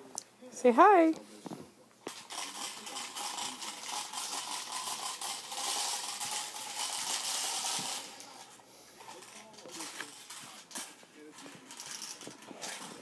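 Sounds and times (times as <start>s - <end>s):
popper toy balls clattering: 2.0s - 13.0s.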